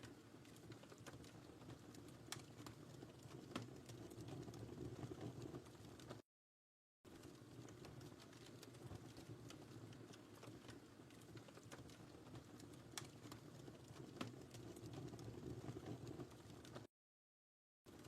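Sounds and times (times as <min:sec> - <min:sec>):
fire crackles and pops: 0:00.0 - 0:06.2, 0:07.1 - 0:16.9
low rumble of flames: 0:00.0 - 0:06.2, 0:07.1 - 0:16.9.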